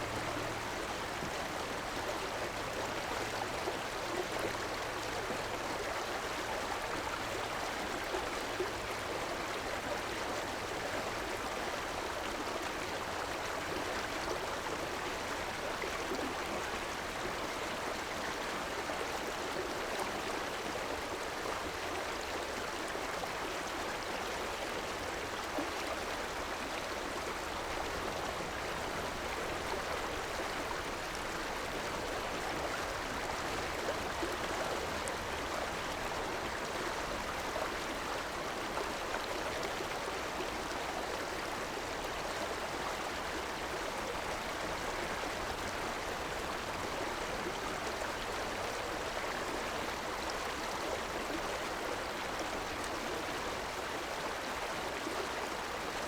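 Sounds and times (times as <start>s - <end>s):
stream water rushing and gurgling: 0.0s - 56.0s.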